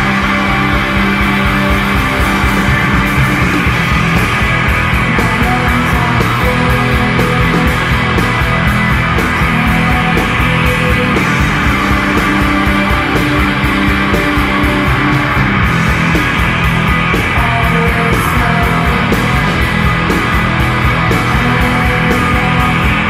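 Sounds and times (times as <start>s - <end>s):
guitars: 0.0s - 23.0s
steady drum beat: 0.0s - 23.0s.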